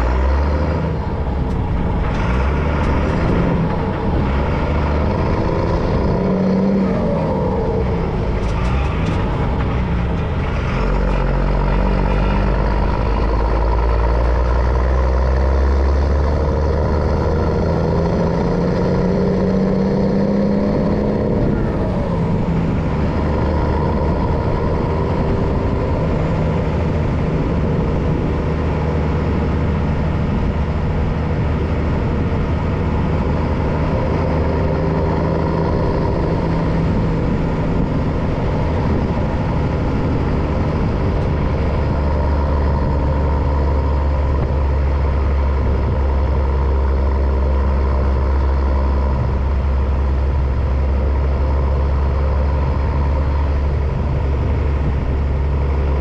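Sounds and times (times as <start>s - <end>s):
diesel truck engine driving: 0.0s - 56.0s.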